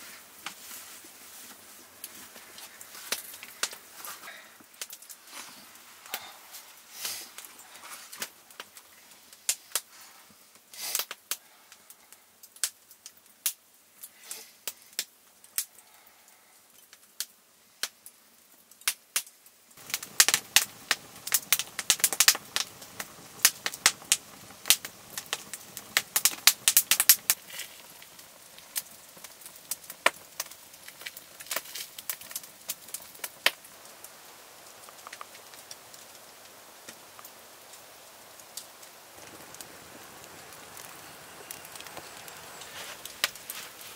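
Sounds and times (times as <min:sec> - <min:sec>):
campfire crackling and popping: 0:00.0 - 0:43.9
soft hiss: 0:00.0 - 0:43.9.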